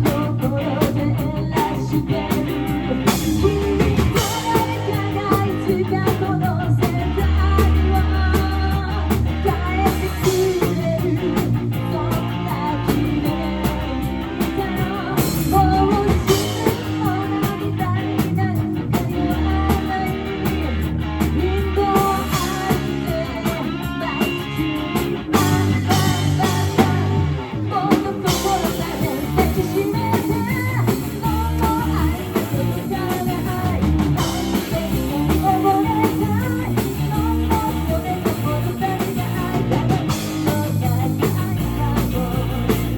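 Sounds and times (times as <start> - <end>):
bass guitar: 0.0 - 42.9
drum kit: 0.0 - 42.9
electric guitar: 0.0 - 42.9
person singing: 0.0 - 42.9.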